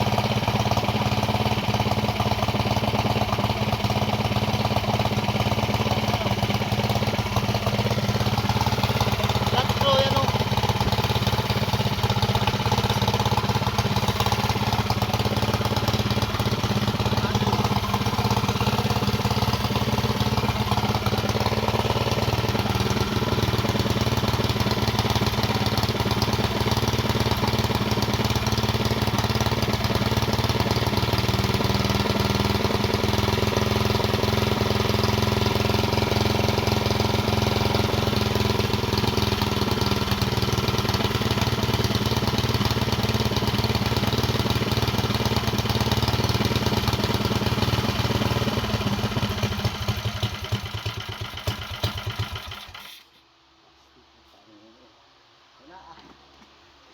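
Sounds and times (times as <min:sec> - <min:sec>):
engine idling: 0:00.0 - 0:53.2.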